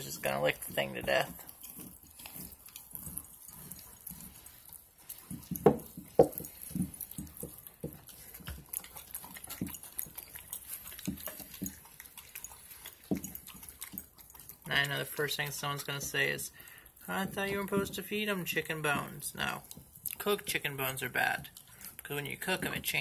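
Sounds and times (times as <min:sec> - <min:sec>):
teeth clicking: 0:00.0 - 0:20.6
puppies chewing and licking: 0:00.0 - 0:23.0.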